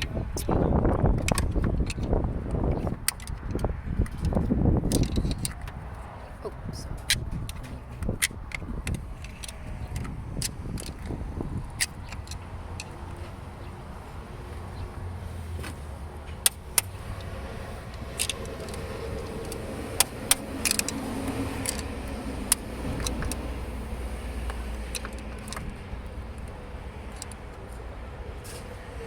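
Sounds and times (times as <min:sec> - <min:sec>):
low rumble of vehicles: 0:00.0 - 0:29.0.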